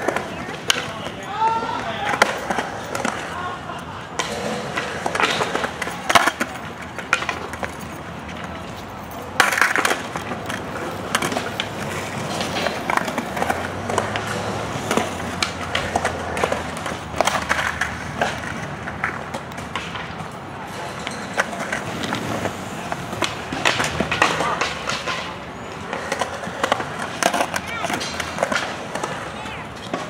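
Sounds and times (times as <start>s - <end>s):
skateboard clacking on ground: 0.0s - 30.0s
skateboards rolling on concrete: 0.0s - 30.0s.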